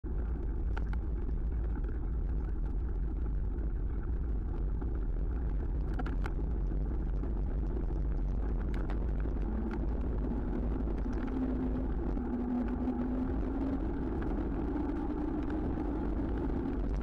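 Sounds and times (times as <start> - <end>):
wind on microphone: 0.1 - 17.0.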